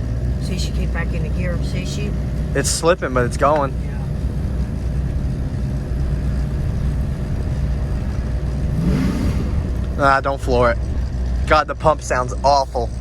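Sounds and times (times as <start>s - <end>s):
loud transmission pump noise: 0.0s - 13.0s
truck engine running: 0.0s - 13.0s.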